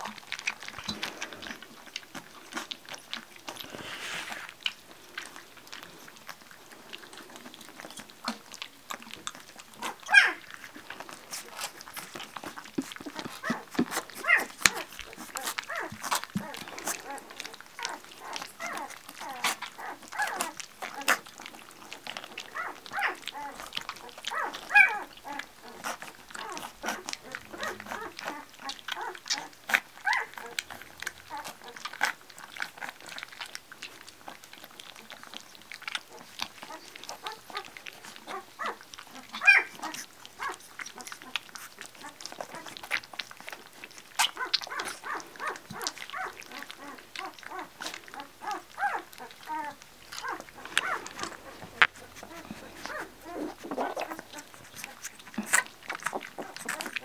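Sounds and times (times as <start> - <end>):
puppies lapping at metal dish: 0.0 - 57.0
puppy whimper: 0.0 - 57.0.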